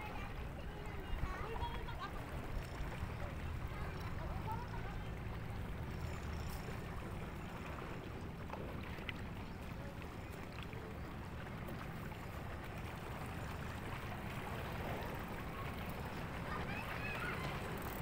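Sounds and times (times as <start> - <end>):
wind and water rumble: 0.0 - 18.0.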